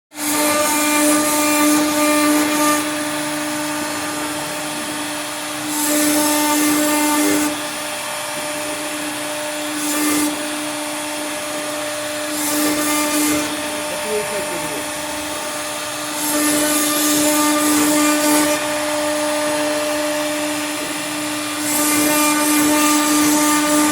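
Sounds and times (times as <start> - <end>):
router spindle whine: 0.2 - 23.9.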